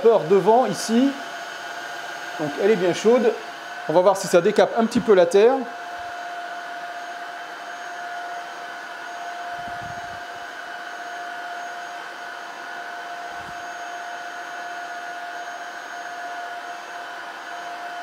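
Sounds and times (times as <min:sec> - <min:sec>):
vacuum motor whine: 0:00.0 - 0:18.0.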